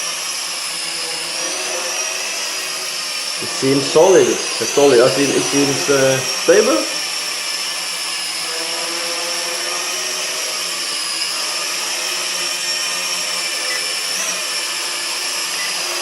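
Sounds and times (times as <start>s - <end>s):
toy drone motors whining: 0.0s - 16.0s.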